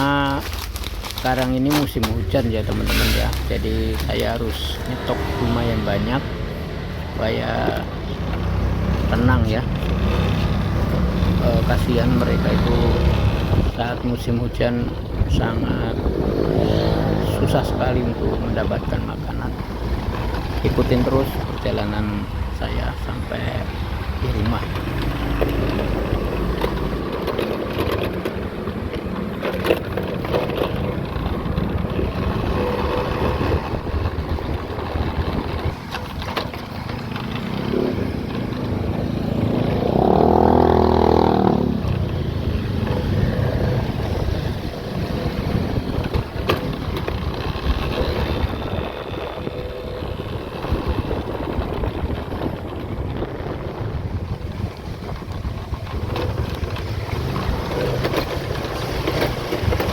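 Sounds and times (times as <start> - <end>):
road and wind noise: 0.0 - 59.9
vehicle engine running: 0.0 - 59.9.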